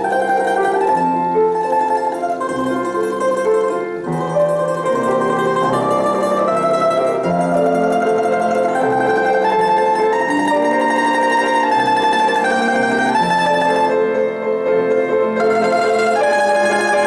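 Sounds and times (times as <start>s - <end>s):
domra melody: 0.0s - 17.0s
piano accompaniment: 0.0s - 17.0s.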